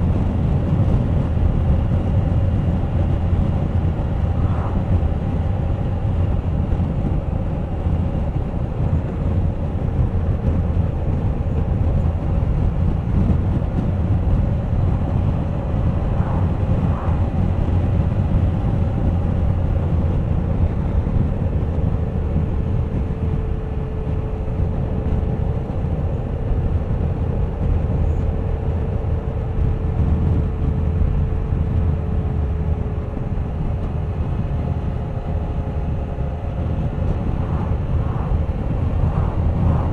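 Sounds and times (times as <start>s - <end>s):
wind rushing over camera: 0.0s - 39.9s.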